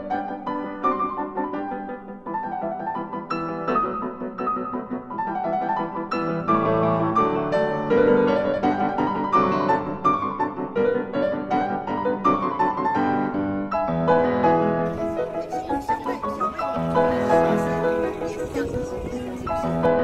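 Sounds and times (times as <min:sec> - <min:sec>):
background piano music: 0:00.0 - 0:20.0.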